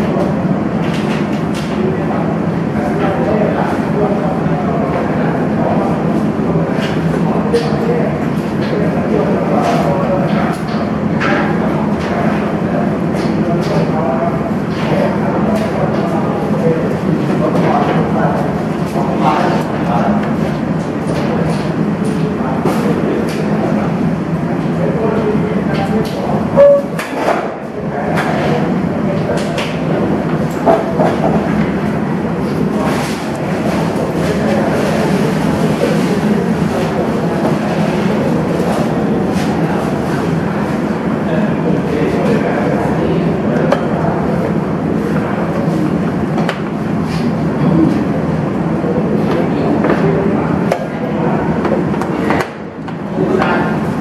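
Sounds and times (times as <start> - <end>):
background hubbub: 0.0 - 54.0
murmur of voices: 0.0 - 54.0.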